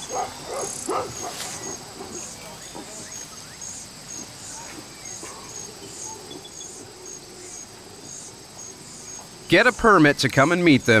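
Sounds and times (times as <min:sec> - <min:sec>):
faint forest ambience: 0:00.0 - 0:11.0
insect chirping: 0:00.0 - 0:11.0.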